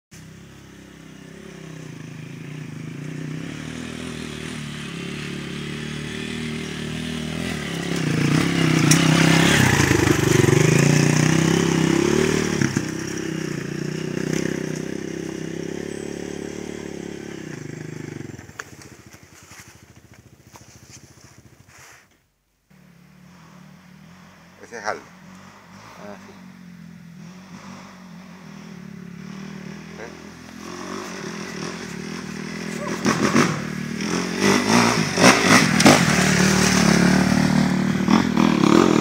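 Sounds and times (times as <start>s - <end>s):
dirt bike engine passing: 0.2s - 22.0s, 22.7s - 39.0s.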